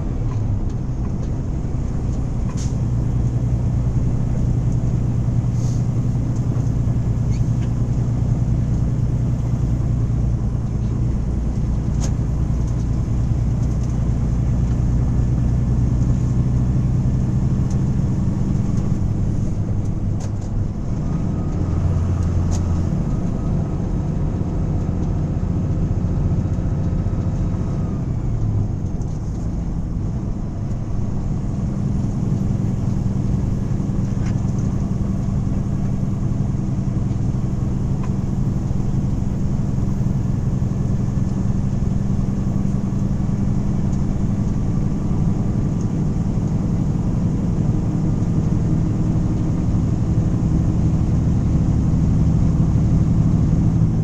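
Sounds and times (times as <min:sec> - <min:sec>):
truck engine and tyre noise: 0:00.0 - 0:54.0.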